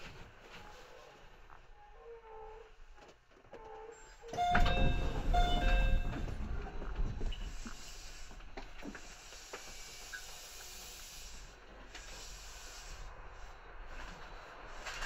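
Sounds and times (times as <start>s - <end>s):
faint hiss inside train: 0.0s - 15.0s.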